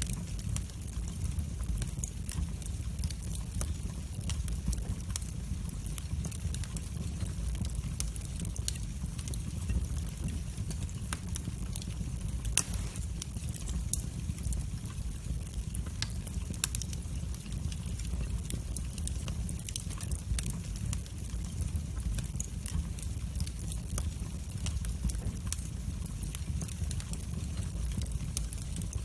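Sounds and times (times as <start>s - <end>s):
fire low rumble: 0.0s - 29.0s
wood fire crackling and popping: 0.0s - 29.0s.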